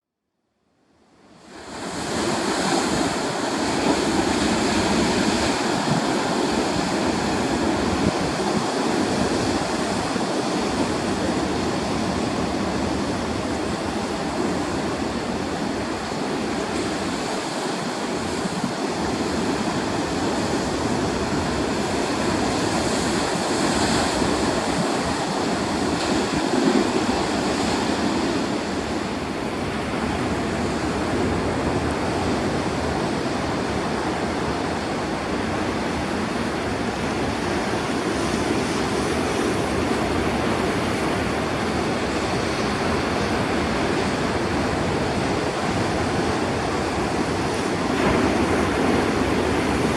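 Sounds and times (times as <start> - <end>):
waves breaking: 1.4 - 49.9.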